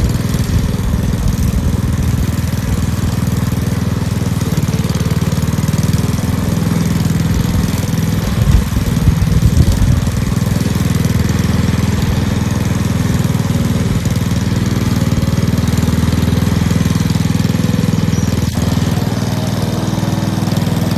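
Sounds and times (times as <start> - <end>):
lawn mower engine cutting grass: 0.0 - 20.9.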